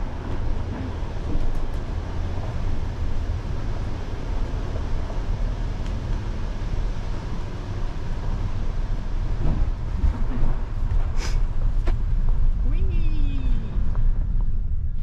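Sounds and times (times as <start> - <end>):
car rolling over wooden bridge deck: 0.0 - 12.5.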